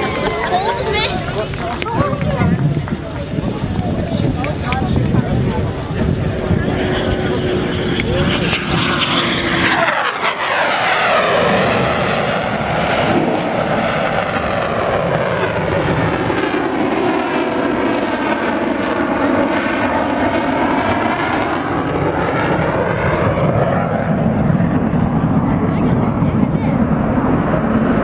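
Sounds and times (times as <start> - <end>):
jet engines passing low: 0.0 - 28.0.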